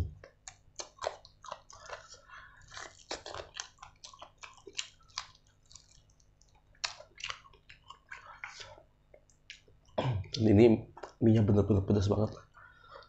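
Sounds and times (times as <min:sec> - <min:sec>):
open-mouthed chewing wet clicks: 0:00.2 - 0:11.2.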